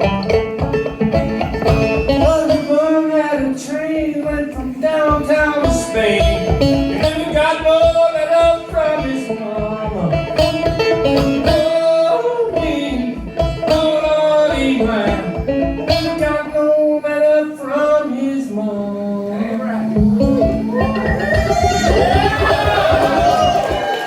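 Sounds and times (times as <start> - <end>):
banjo plucking: 0.0 - 18.2, 18.8 - 24.0
person singing: 1.9 - 24.0.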